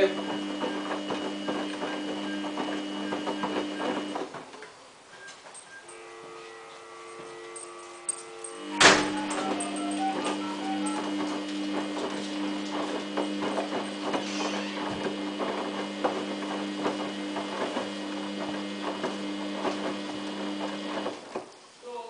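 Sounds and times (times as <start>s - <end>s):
washing machine motor hum: 0.0s - 4.4s, 5.9s - 21.4s.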